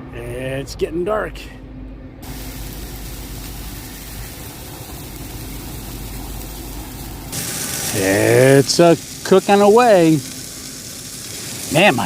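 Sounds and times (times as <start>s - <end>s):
low hum: 0.0s - 11.7s
bright hiss: 2.2s - 12.0s
mechanical drone and hiss: 2.2s - 12.0s.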